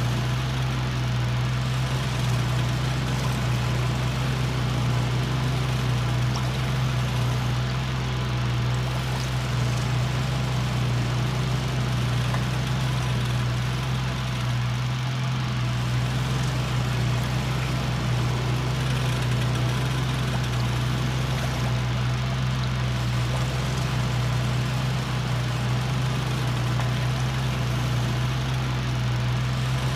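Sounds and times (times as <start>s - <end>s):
electric fan running: 0.0s - 29.9s.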